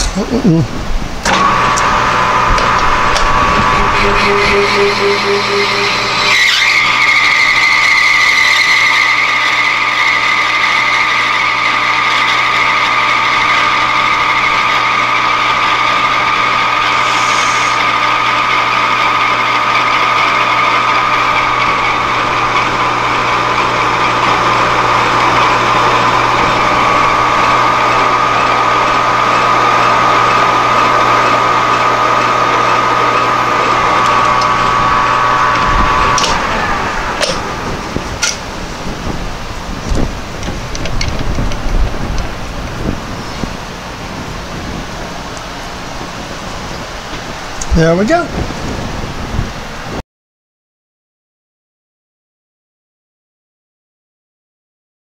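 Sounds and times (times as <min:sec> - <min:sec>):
metal lathe motor whining: 0:01.0 - 0:47.8.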